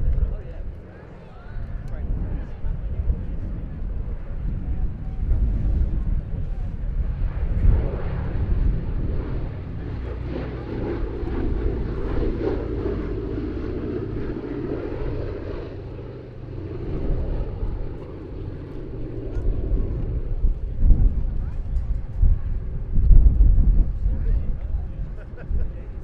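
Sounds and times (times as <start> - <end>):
propeller plane engines droning: 0.0 - 26.0.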